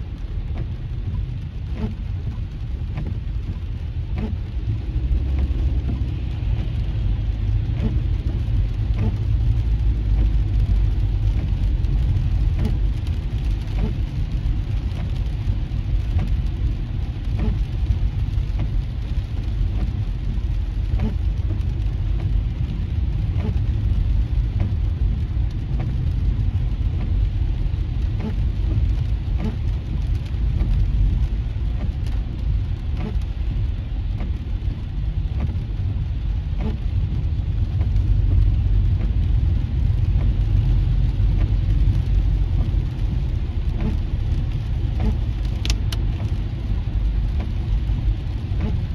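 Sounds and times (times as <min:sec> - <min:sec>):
engine and tyres on wet road: 0:00.0 - 0:48.9
raindrops ticking on windshield: 0:00.0 - 0:48.9.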